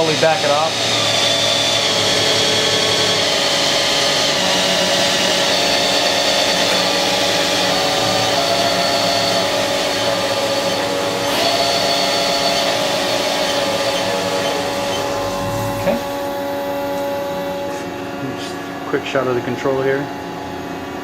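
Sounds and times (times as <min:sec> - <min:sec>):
lathe spindle whine: 0:00.0 - 0:21.0.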